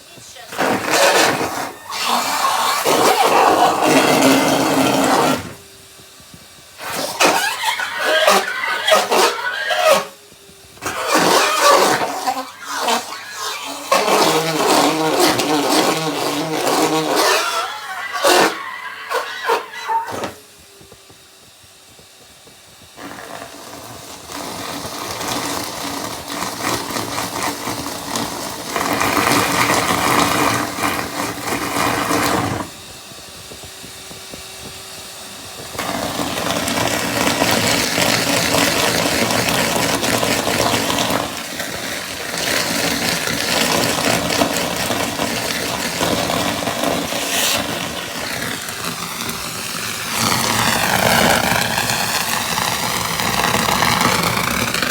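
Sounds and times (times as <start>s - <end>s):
vacuum cleaner sucking up pieces: 0.0s - 54.9s.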